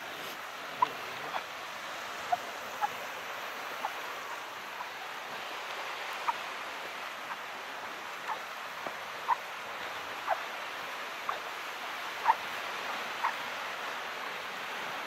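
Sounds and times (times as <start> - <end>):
calm sea water washing: 0.0 - 15.0.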